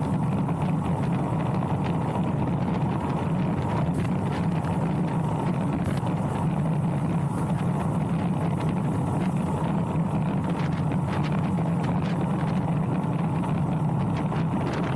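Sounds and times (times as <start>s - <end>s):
bike tyre noise: 0.0s - 14.9s.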